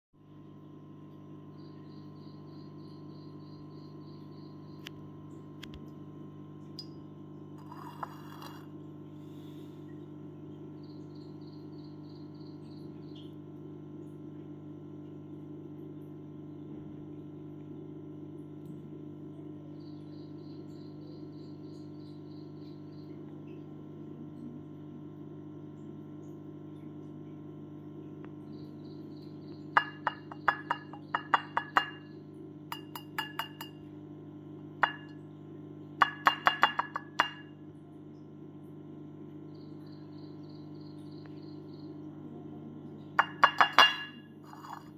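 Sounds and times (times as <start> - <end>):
steady low hum: 0.2 - 44.9.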